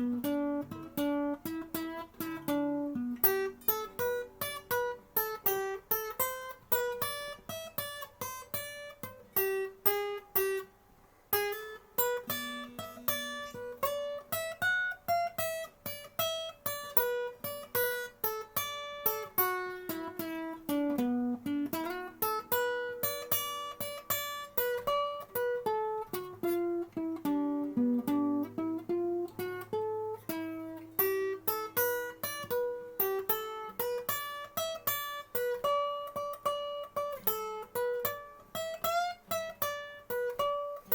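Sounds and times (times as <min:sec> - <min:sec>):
acoustic guitar plucked notes: 0:00.0 - 0:40.9.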